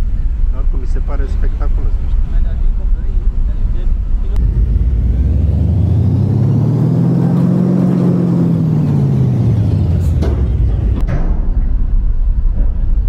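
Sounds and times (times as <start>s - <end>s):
ferry machinery humming: 1.7s - 13.0s.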